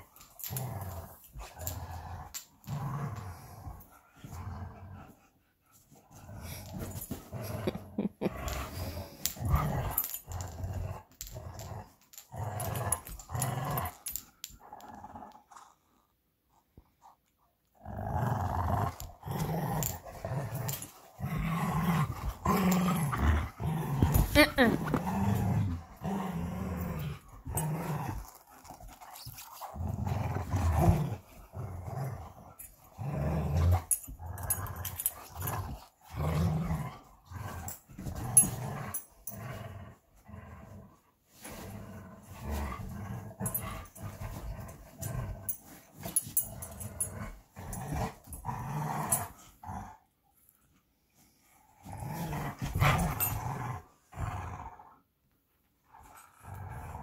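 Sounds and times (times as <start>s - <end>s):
dog growling in play: 0.0s - 5.4s, 6.1s - 16.0s, 17.7s - 50.1s, 51.2s - 55.1s, 55.8s - 57.0s.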